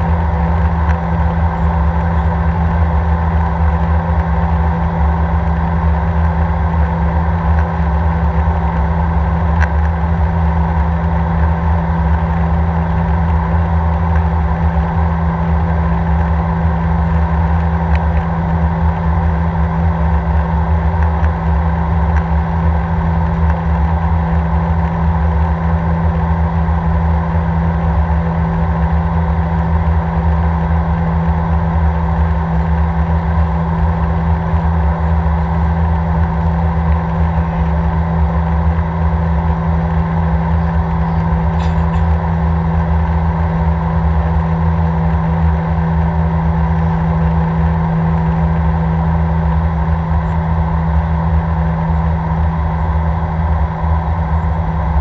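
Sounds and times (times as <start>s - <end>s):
jet engine drone: 0.0s - 55.0s
strong low hum: 0.0s - 55.0s.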